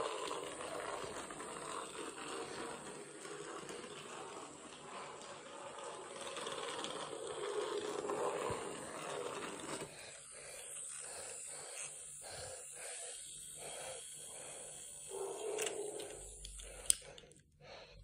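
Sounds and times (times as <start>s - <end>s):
wheels rattling on plastic track: 0.0s - 16.7s
toy engine being handled: 0.0s - 17.4s
toy train motor whirring: 0.0s - 17.5s.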